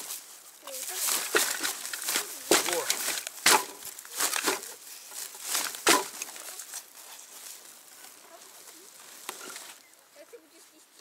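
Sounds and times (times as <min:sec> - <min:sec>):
plastic sack rustling: 0:00.0 - 0:09.8.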